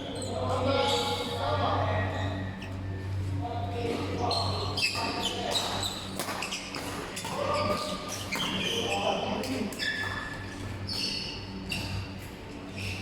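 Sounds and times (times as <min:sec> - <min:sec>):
shoe squeaks: 0:00.0 - 0:01.4, 0:02.0 - 0:13.0.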